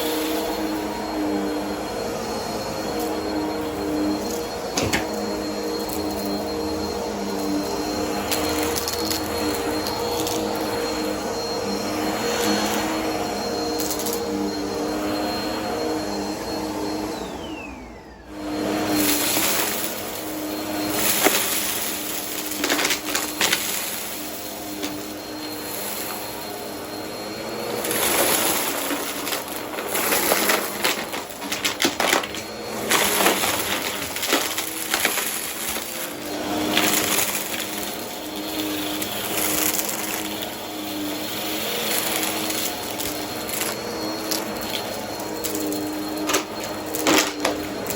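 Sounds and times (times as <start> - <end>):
vacuum cleaner motor whine: 0.0 - 47.9.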